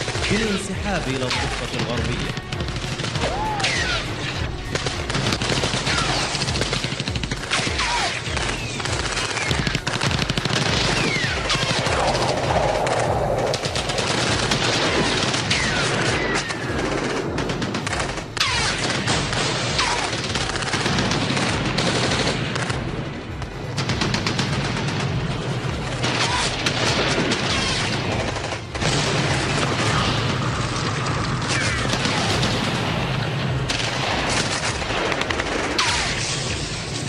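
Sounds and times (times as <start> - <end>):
rapid machine-gun fire: 0.0 - 37.0.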